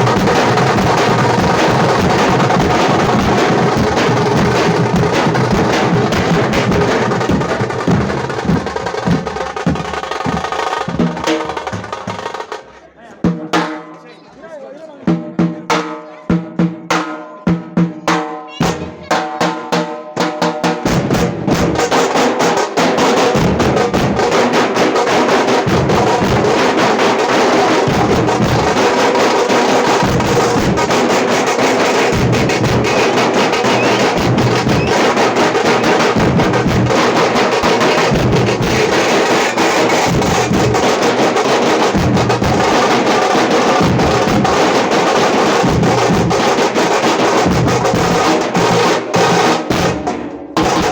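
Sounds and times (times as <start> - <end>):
frame drums played with sticks: 0.0 - 13.9, 15.0 - 50.9.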